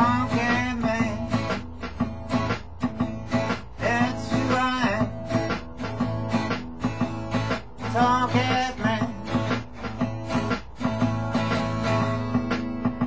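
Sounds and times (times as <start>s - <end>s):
acoustic guitar strumming blues: 0.0s - 13.0s.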